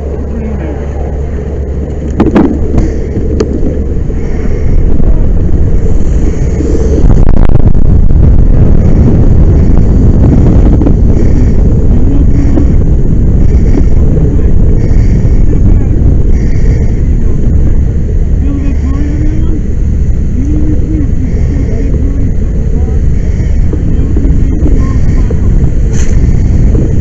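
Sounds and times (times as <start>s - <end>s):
low rumble of large fire: 0.0s - 27.0s
wind buffeting microphone: 0.0s - 27.0s.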